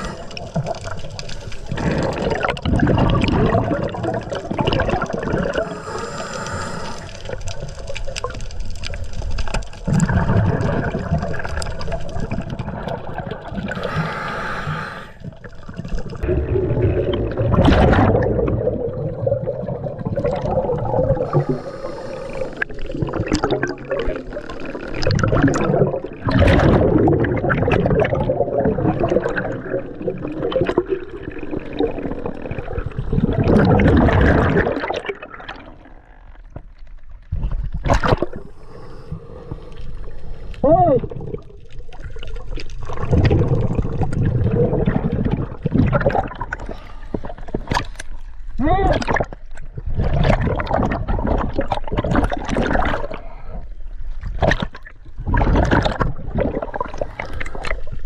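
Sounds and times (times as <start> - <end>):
underwater water sloshing and bubbling: 0.0 - 58.0.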